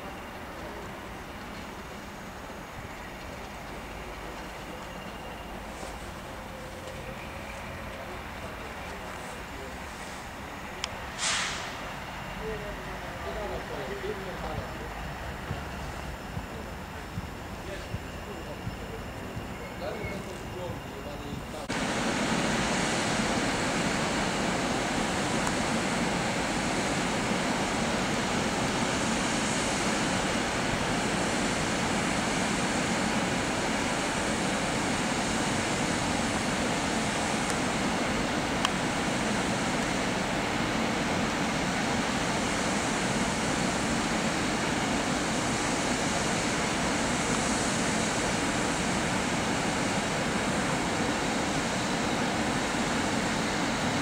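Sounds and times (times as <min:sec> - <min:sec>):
locomotive cooling blowers drone: 0:00.0 - 0:54.0.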